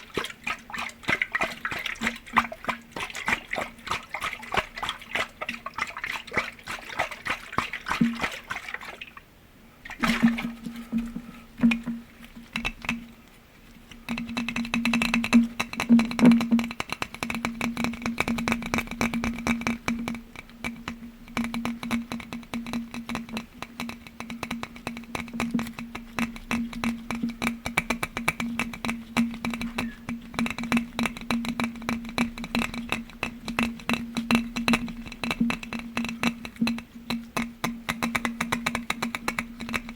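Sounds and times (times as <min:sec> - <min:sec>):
rapid tapping on glass: 0:00.0 - 0:09.0, 0:14.1 - 0:39.9.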